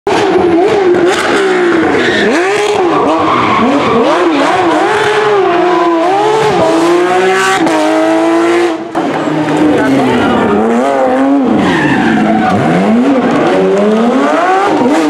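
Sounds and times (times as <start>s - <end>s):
car engine revving: 0.1s - 15.0s.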